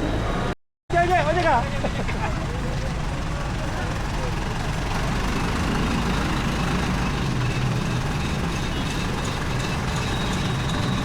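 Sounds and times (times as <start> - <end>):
large engine rumbling: 0.0 - 11.0.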